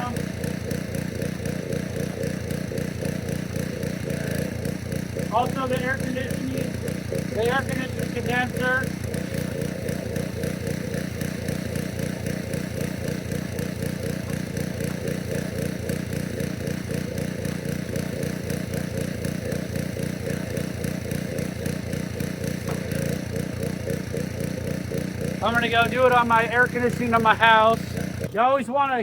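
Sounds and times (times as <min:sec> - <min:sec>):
pressure washer engine running: 0:00.0 - 0:29.0.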